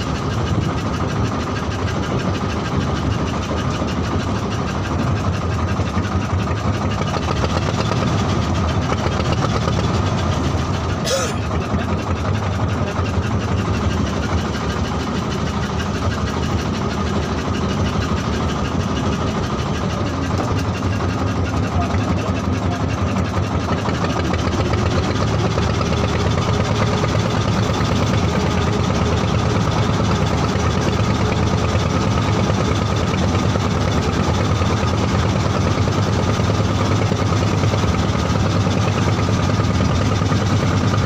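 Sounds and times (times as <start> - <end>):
boat engine humming: 0.0 - 41.0.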